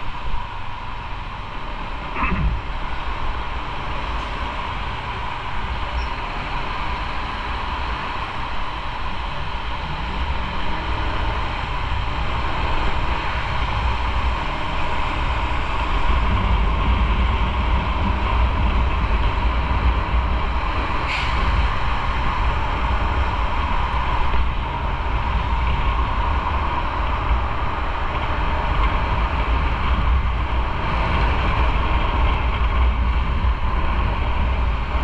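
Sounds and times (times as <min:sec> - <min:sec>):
motorcycle engine and road rumble: 0:00.0 - 0:35.0
wind rushing over microphone: 0:00.0 - 0:35.0.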